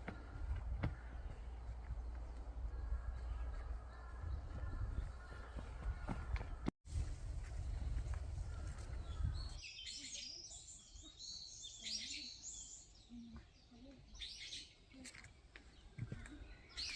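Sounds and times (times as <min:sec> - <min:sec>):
songbirds chirping and singing: 0:00.0 - 0:06.7, 0:07.6 - 0:16.9.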